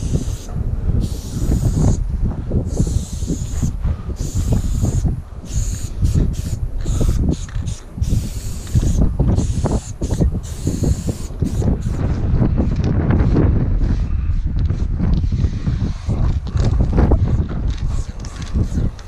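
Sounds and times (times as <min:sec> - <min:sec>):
spray paint can hissing: 0:00.0 - 0:02.0, 0:02.7 - 0:13.3, 0:15.2 - 0:19.0
wind rumble on microphone: 0:00.0 - 0:19.0.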